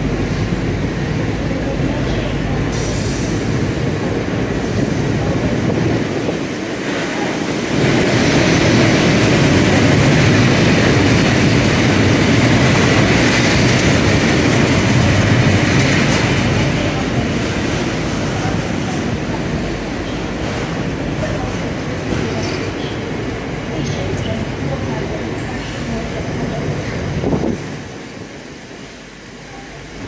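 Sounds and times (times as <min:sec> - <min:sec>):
train running: 0:00.0 - 0:30.0.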